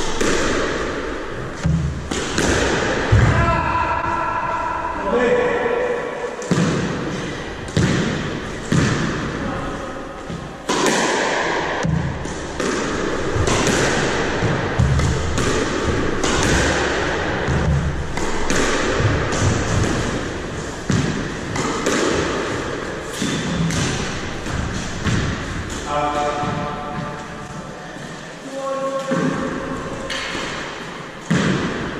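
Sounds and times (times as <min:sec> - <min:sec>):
squash ball hits: 0:00.0 - 0:03.7, 0:06.4 - 0:09.6, 0:10.2 - 0:27.2, 0:29.0 - 0:31.9.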